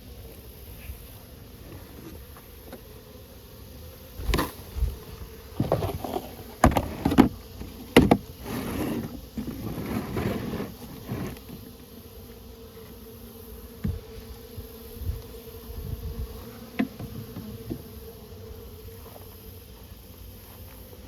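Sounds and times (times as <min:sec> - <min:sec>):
bee colony buzzing: 0:00.0 - 0:21.0.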